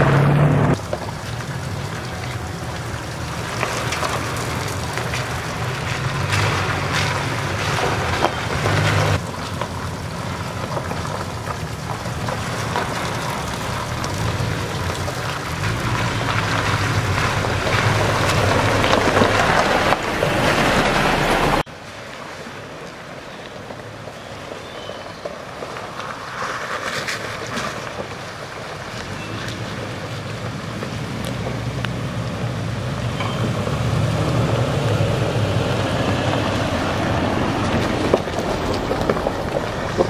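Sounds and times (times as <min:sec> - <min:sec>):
low engine hum: 0:00.0 - 0:21.7, 0:27.2 - 0:40.0
tyres rolling over wet gravel: 0:00.0 - 0:40.0.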